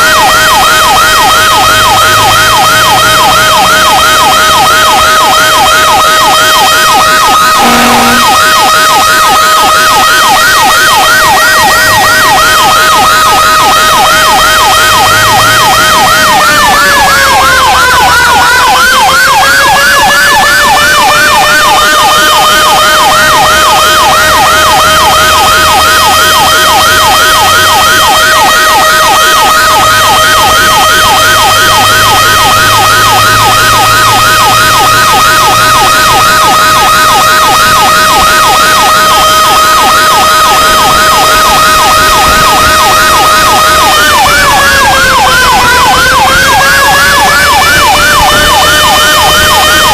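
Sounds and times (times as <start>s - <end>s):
fire engine siren yelping: 0.0s - 49.9s.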